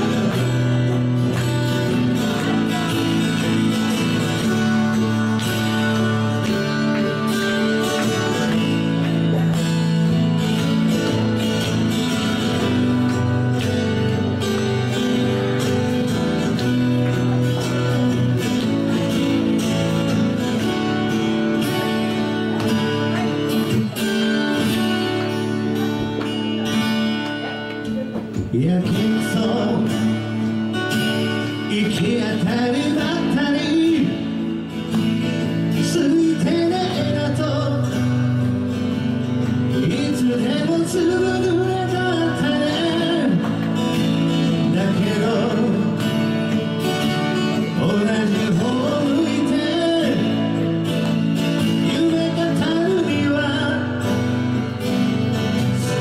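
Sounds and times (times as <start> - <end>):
man singing: 0.0 - 16.6, 27.5 - 56.0
acoustic guitars strumming: 0.0 - 56.0.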